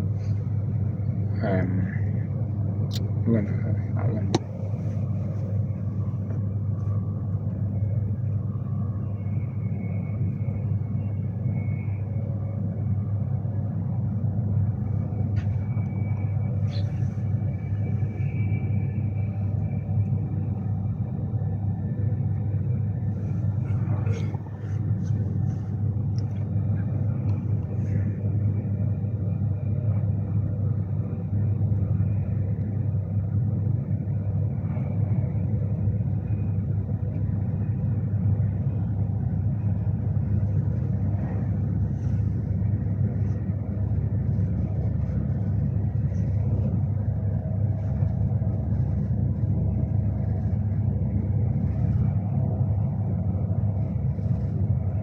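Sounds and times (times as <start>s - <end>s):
faint hum: 0.0s - 55.0s
train cabin rumble: 0.0s - 55.0s.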